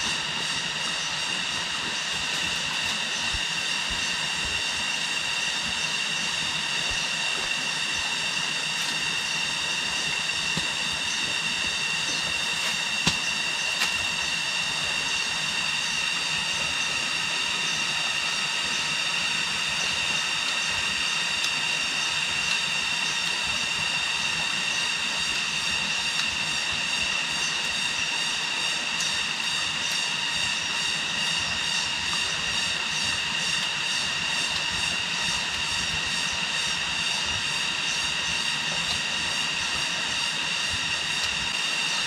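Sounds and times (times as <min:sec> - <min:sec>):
high-pitched drone: 0:00.0 - 0:42.0.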